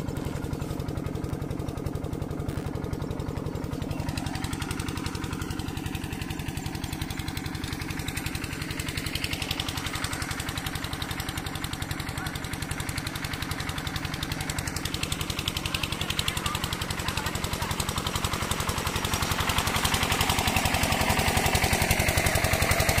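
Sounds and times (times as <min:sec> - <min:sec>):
diesel water pump engine running: 0:00.0 - 0:23.0
water gushing from pump: 0:00.0 - 0:23.0.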